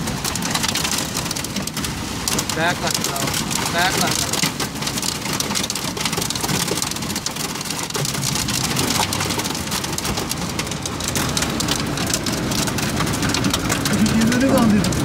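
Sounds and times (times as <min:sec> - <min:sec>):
heavy rain falling: 0:00.0 - 0:15.0
raindrops ticking on window glass: 0:00.0 - 0:15.0.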